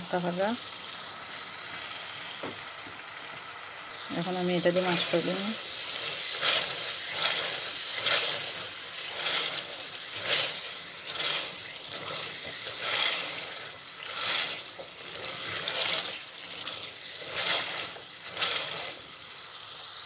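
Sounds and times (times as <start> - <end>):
paste sizzling in a saucepan: 0.0 - 20.0.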